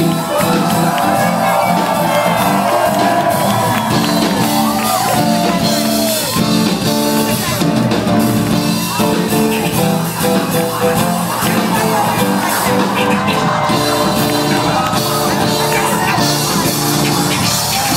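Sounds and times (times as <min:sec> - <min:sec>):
live band playing hip-hop: 0:00.0 - 0:17.9.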